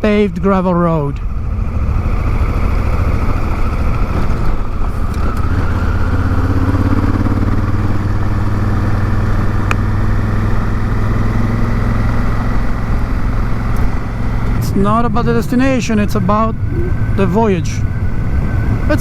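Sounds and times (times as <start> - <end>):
motorcycle engine running: 0.0 - 19.0
wind noise: 1.2 - 19.0.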